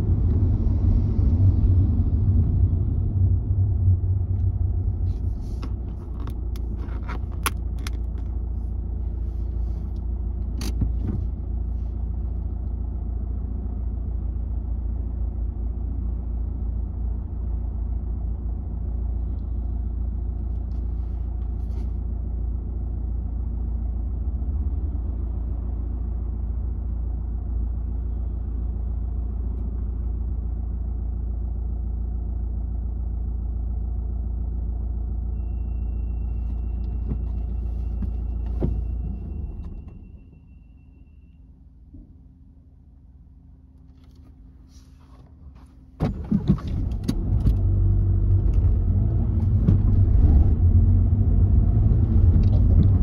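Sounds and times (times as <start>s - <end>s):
car engine idling: 0.0s - 46.7s.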